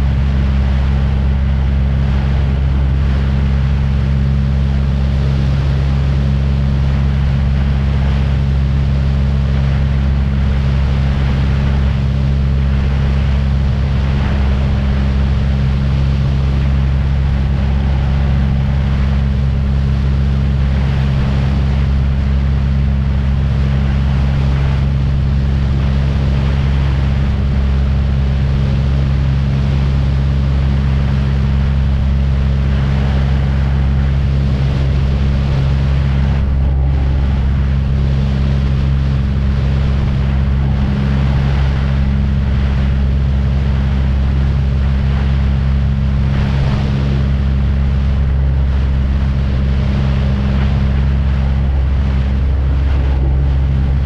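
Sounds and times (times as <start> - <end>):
small aircraft engine drone: 0.0 - 54.0.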